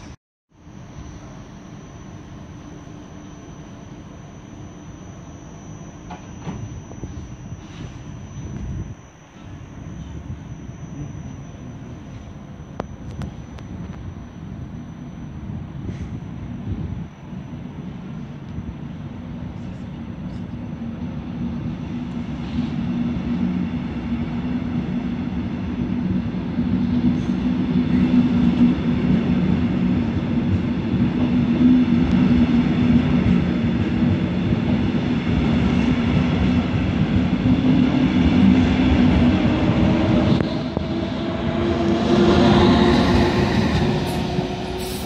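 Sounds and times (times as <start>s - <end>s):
electric train rolling past: 0.0s - 45.0s.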